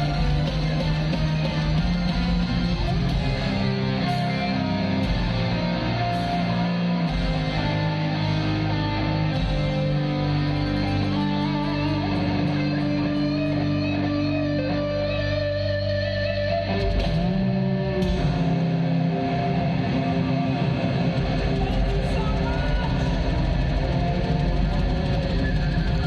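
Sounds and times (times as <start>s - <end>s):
electric guitars sustained notes: 0.0s - 26.0s
heavy metal band playing live: 0.0s - 26.0s.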